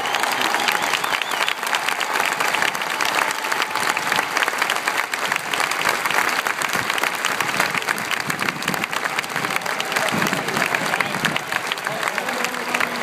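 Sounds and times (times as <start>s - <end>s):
stadium crowd applauding: 0.0s - 13.0s.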